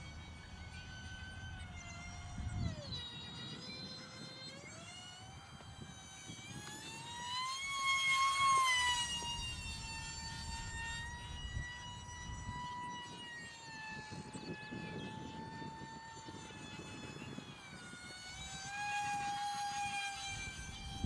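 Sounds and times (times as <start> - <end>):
electric ducted fans whining: 0.0 - 21.0.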